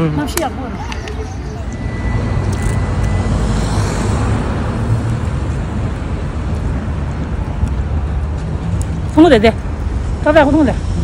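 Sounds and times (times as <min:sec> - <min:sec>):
low traffic rumble: 0:00.0 - 0:11.0
vehicle passing: 0:00.0 - 0:11.0.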